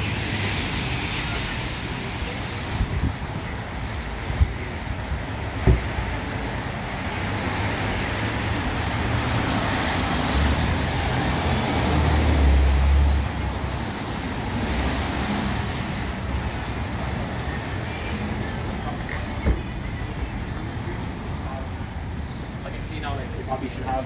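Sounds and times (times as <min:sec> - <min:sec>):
passing vehicle engine rumble: 0:00.0 - 0:24.0
tyres hissing on wet pavement: 0:00.0 - 0:24.0.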